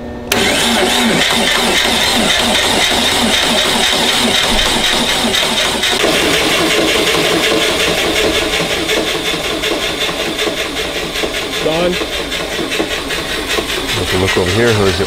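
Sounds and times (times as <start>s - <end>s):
starter motor cranking engine: 0.3s - 15.0s.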